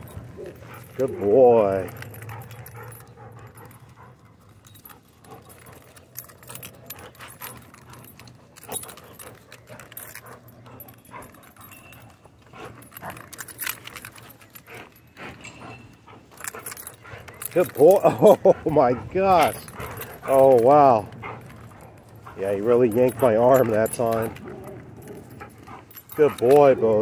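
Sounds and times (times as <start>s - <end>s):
metal collar tags jingling: 0.0s - 27.0s
scuffling and rustling of rope: 0.0s - 27.0s.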